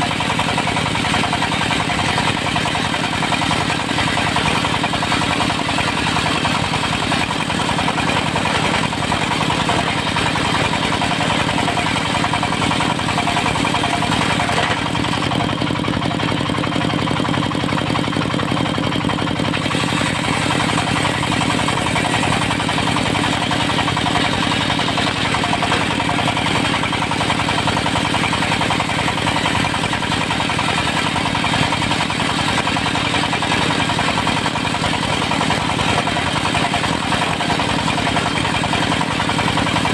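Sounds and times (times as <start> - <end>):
diesel engine driving sawmill blade: 0.0 - 39.9.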